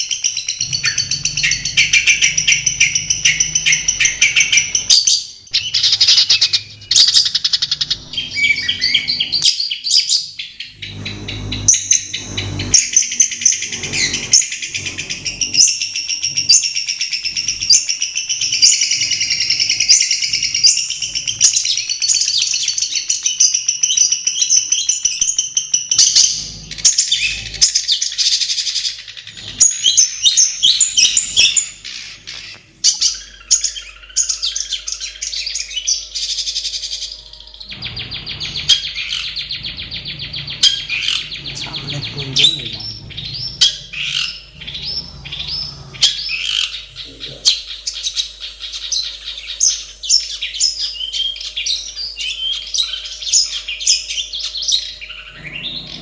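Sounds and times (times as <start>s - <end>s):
bird chattering and whistling: 0.0s - 56.0s.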